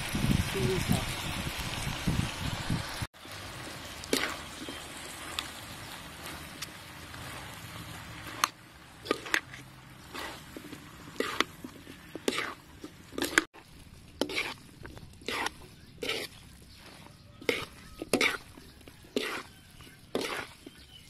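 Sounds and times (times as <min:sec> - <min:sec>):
metal spatula scraping a wok: 0:03.5 - 0:21.0.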